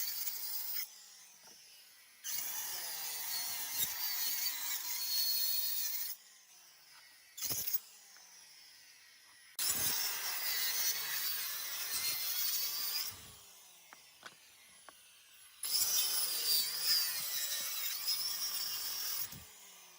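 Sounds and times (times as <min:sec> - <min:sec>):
circular saw cutting wood: 0:00.0 - 0:19.9.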